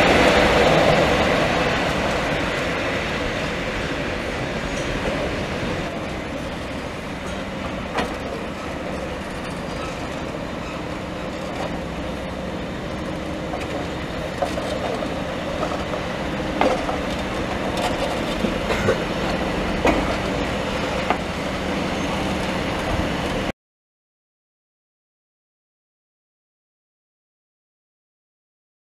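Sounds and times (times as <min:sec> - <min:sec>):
train rumbling past: 0:00.0 - 0:23.5
wheels clacking over rail joints: 0:00.0 - 0:23.5.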